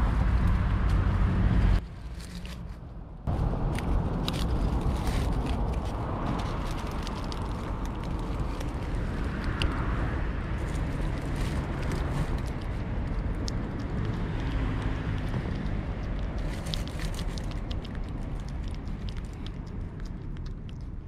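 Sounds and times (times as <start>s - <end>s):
low background rumble: 0.0s - 21.0s
cat crunching dry kibble: 2.1s - 21.0s.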